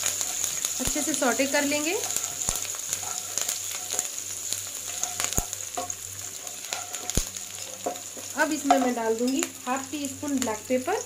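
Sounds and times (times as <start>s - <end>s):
spatula stirring and scraping: 0.0s - 8.9s
food sizzling in hot oil: 0.0s - 11.0s.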